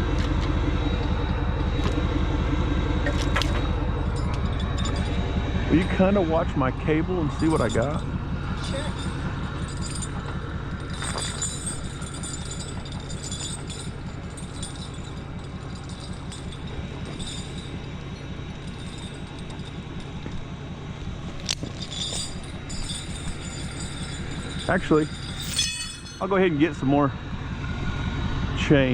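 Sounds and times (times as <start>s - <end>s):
vehicle engine running: 0.0s - 28.9s
light metallic clinking: 3.0s - 26.8s.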